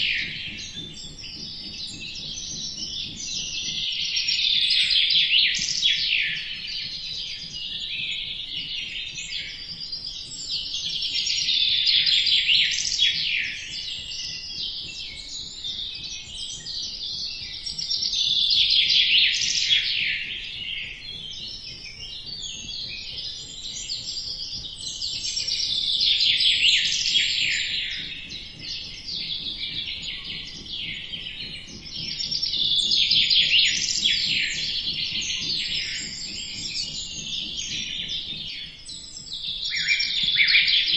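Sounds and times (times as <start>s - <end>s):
birds chirping in chorus: 0.0s - 40.9s.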